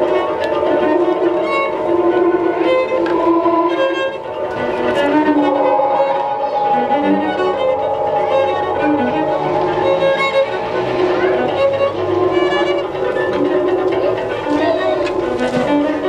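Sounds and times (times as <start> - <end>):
bowed cello notes: 0.0 - 16.0
held electronic tones: 0.0 - 16.0
shamisen: 0.0 - 16.0.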